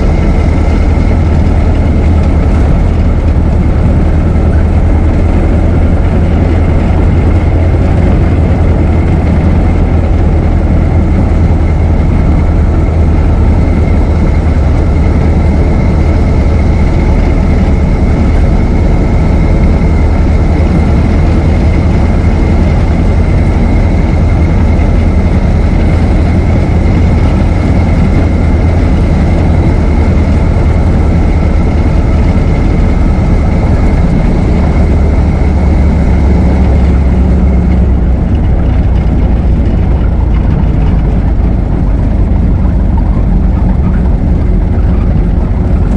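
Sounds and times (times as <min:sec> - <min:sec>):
old car engine droning: 0:00.0 - 0:45.9.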